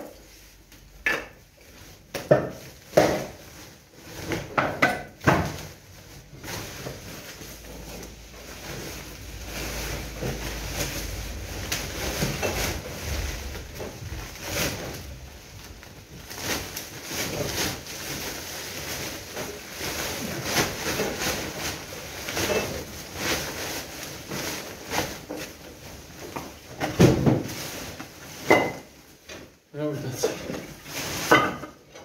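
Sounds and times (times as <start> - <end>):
crackles and knocks: 0.0 - 29.6
plastic sacks rustling: 0.0 - 32.0.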